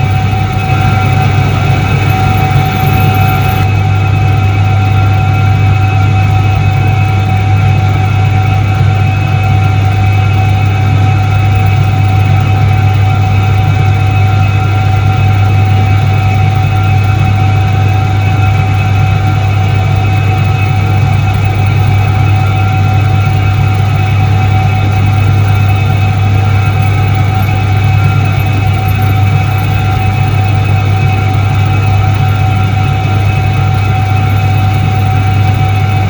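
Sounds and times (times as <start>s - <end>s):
washing machine motor humming: 0.0s - 36.0s.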